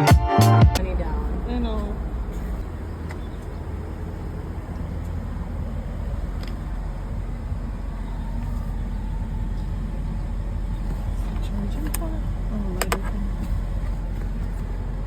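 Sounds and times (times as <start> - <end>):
car engine rumble: 0.7 - 15.0.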